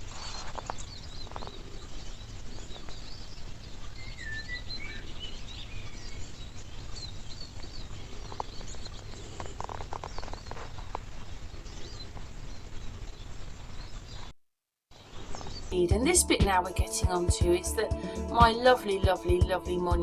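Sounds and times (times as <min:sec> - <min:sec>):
small birds chirping: 0:00.0 - 0:14.3, 0:14.9 - 0:20.0.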